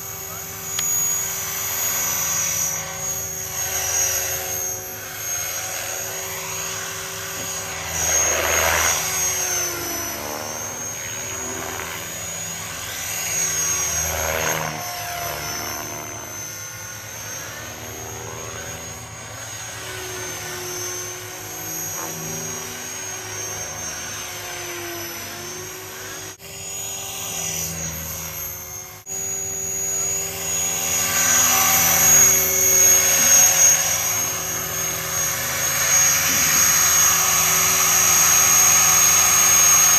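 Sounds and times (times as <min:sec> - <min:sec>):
model helicopter whine and rotor: 0:00.0 - 0:39.9.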